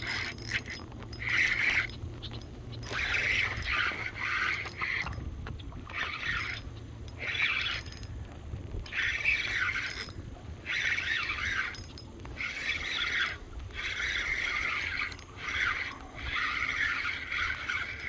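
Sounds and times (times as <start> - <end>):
fishing reel whirring: 0.0 - 18.0.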